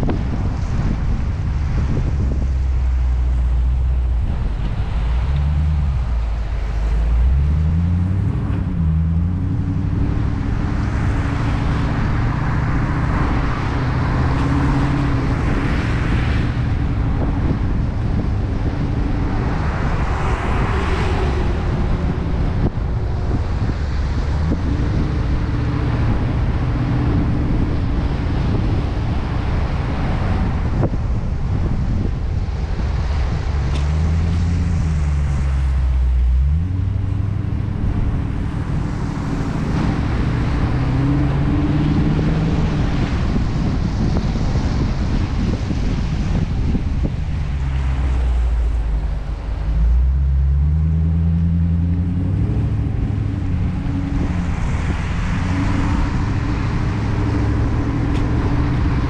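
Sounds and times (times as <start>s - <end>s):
car engine running: 0.0s - 59.0s
wind over microphone: 0.0s - 59.0s
tyres hissing on wet road: 9.8s - 59.0s.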